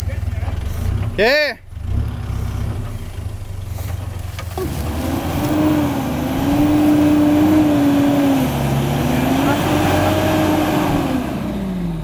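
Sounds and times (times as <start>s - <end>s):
engine whine: 0.0s - 12.0s
off-road vehicle engine rumbling: 0.0s - 12.0s.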